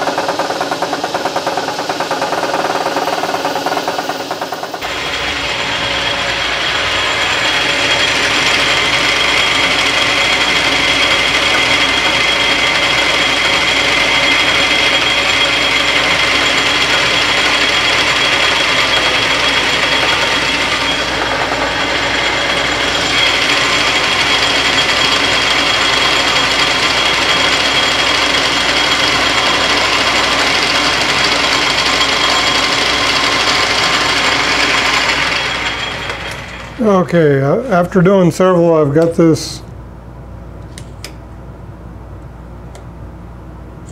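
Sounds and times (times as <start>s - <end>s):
metal lathe cutting hiss: 0.0s - 37.0s
lathe high whine: 0.0s - 38.8s.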